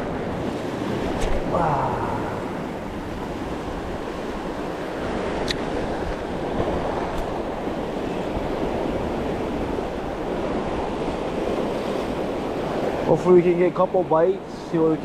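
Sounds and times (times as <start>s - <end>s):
surf washing on shoreline: 0.0s - 15.0s.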